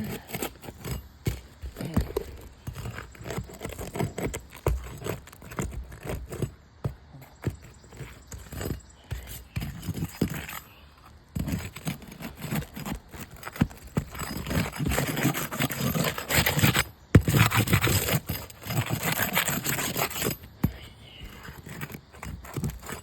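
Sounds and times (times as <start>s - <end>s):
metal tool scraping under shingles: 0.0s - 23.0s.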